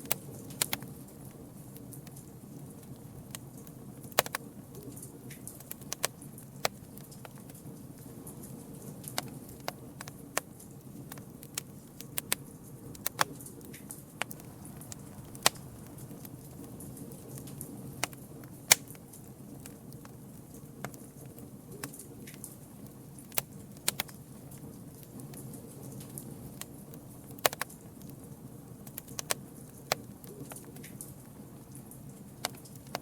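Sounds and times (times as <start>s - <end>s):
campfire burning and crackling: 0.0s - 33.0s.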